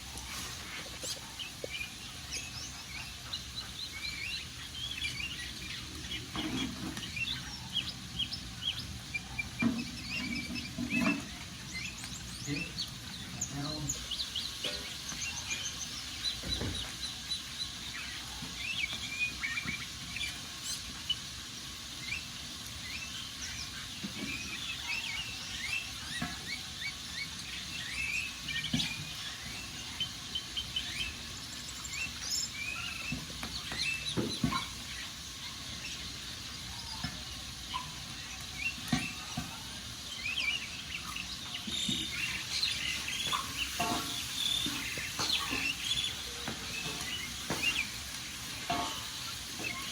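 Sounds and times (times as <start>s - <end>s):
birds chirping: 0.0s - 49.9s
wood fire crackling: 0.0s - 49.9s.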